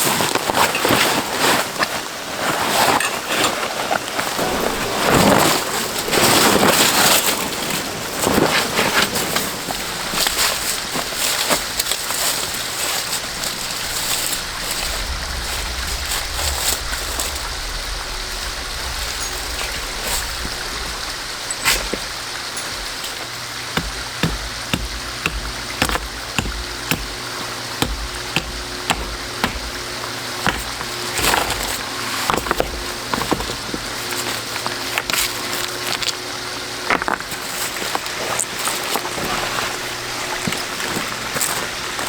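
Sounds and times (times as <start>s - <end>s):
mountain stream running: 4.0s - 42.0s.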